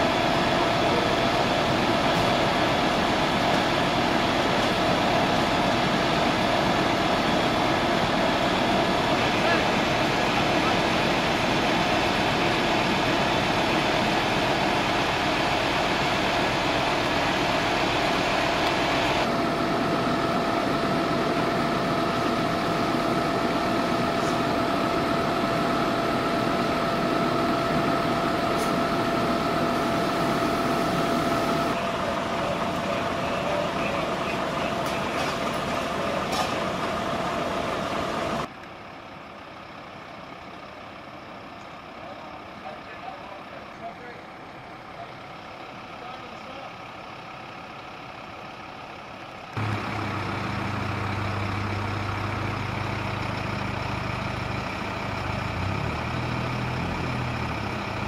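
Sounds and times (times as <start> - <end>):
fire truck engines droning: 0.0 - 58.0.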